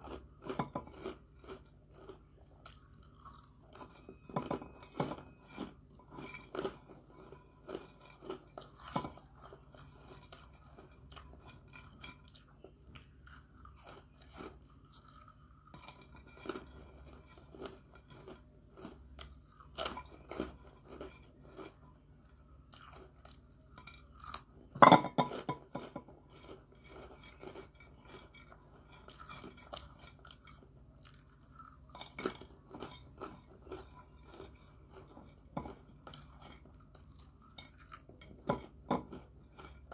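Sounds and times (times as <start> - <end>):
chewing crunchy snacks: 0.0 - 39.9.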